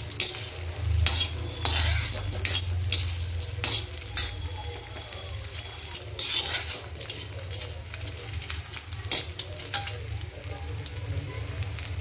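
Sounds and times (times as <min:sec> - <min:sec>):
gum sizzling in frying pan: 0:00.0 - 0:12.0
spatula scraping pan: 0:00.1 - 0:09.9.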